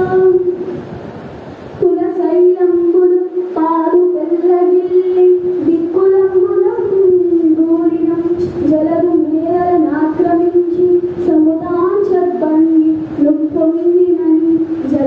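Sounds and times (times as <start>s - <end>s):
child singing melodic chant: 0.0s - 0.8s, 1.8s - 15.0s.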